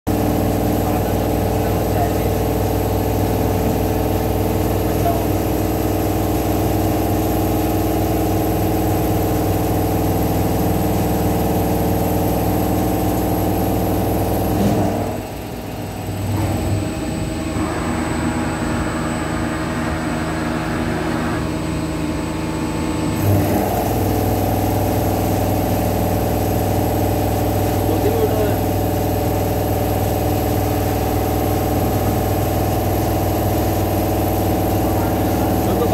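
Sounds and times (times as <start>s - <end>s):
milling machine whine: 0.1s - 35.9s.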